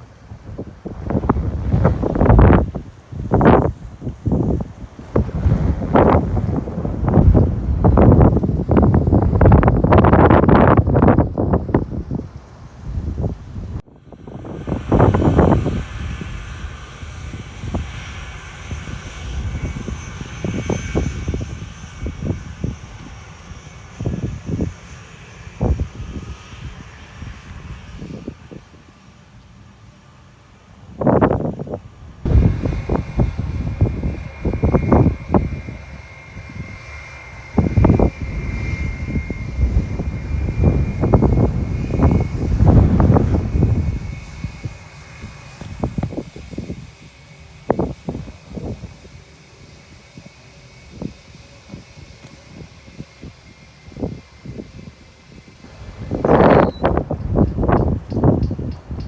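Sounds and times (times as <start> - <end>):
jet engines whining: 0.0 - 59.0
wind buffeting microphone: 0.0 - 59.0.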